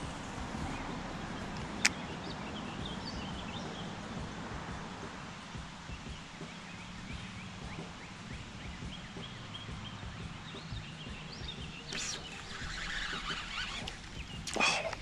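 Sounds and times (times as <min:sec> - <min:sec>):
faint bird chirps: 0:00.0 - 0:04.3, 0:05.2 - 0:15.0
steady low rush: 0:00.0 - 0:15.0.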